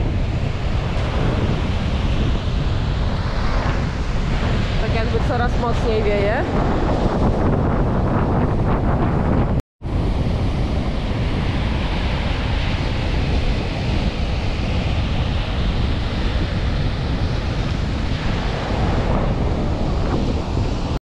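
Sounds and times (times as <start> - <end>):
storm wind: 0.0 - 21.0
wind buffeting microphone: 0.0 - 21.0.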